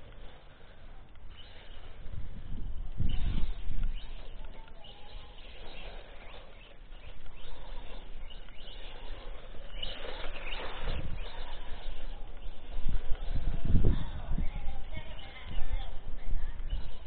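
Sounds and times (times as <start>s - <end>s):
rc truck motor and tyres: 0.0s - 17.0s.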